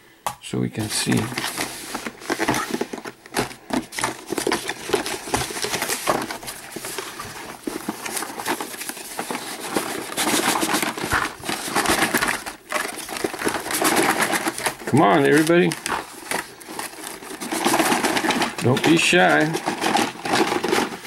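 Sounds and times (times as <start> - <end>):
toy cars rustling and clattering: 0.9 - 21.0.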